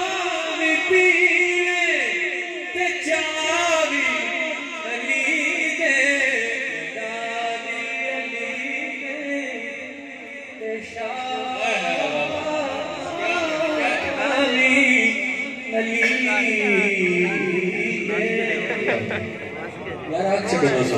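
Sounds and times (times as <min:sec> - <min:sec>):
men singing devotional song: 0:00.0 - 0:19.6.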